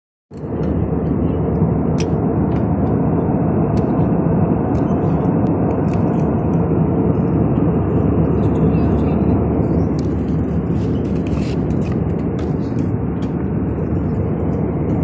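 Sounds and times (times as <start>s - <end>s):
airliner cabin engine rumble: 0.3s - 15.0s.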